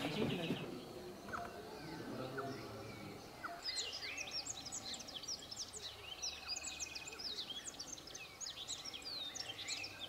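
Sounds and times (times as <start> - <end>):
birds chirping and whistling: 0.0 - 10.0.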